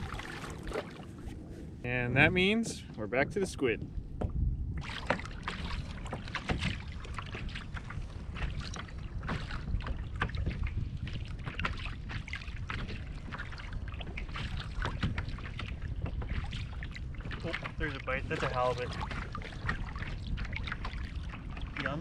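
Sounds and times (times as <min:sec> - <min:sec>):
waves lapping against kayak hull: 0:00.0 - 0:22.0
wind rumble on microphone: 0:00.0 - 0:22.0.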